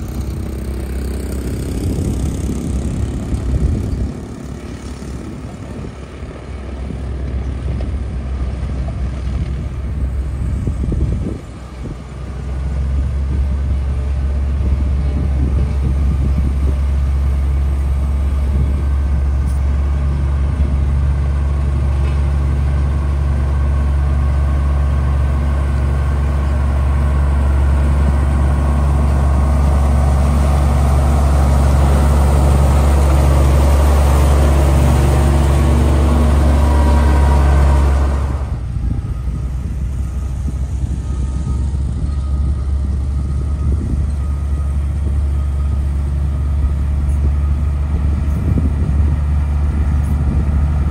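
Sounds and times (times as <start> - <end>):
diesel engine running under load: 0.0 - 50.9
gravel crunching under blade and tyres: 0.0 - 50.9.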